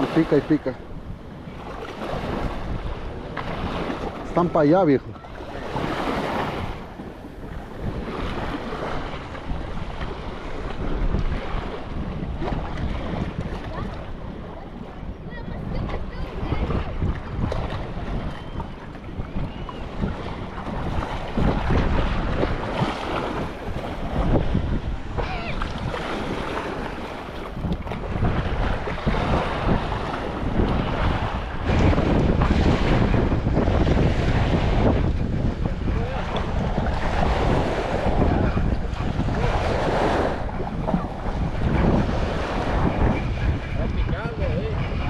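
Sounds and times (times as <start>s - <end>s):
waves washing: 0.0s - 45.0s
wind buffeting microphone: 0.0s - 45.0s.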